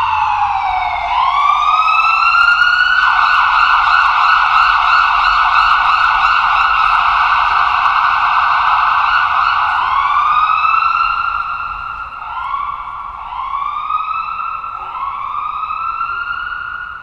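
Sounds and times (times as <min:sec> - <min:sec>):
electronic ambulance siren: 0:00.0 - 0:17.0.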